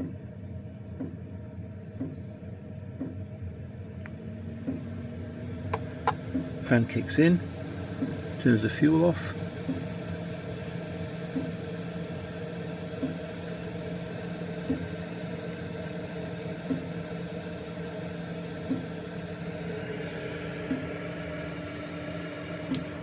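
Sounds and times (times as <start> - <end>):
heater blower fan running: 0.0 - 23.0
light regular ticking: 0.8 - 23.0.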